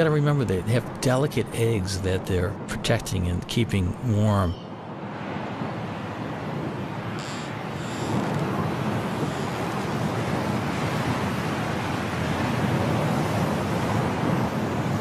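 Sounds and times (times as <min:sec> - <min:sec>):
storm wind blowing: 0:00.0 - 0:15.0.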